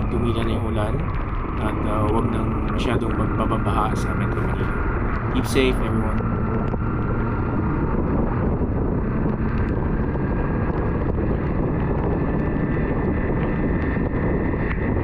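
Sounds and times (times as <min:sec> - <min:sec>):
motorcycle engine cruising: 0:00.0 - 0:15.0
wind noise on microphone: 0:00.0 - 0:15.0.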